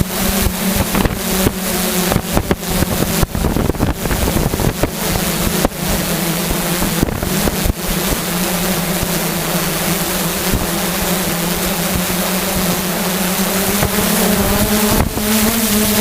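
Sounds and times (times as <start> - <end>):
drone propellers humming: 0.0 - 16.0
wind buffeting microphone: 0.0 - 16.0.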